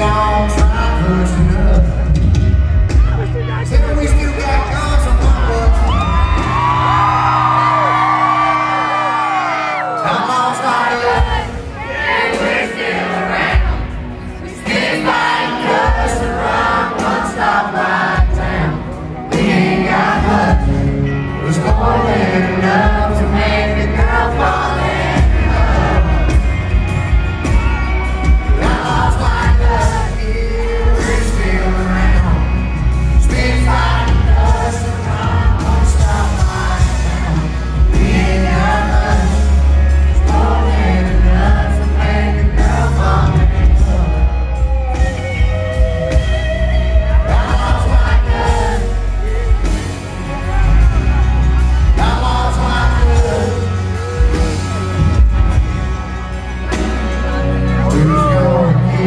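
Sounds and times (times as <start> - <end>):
man singing: 0.0 - 6.2, 9.9 - 11.5, 14.6 - 26.4, 28.3 - 51.0, 51.7 - 55.2, 57.2 - 59.0
crowd noise: 0.0 - 59.0
live country rock band: 0.0 - 59.0.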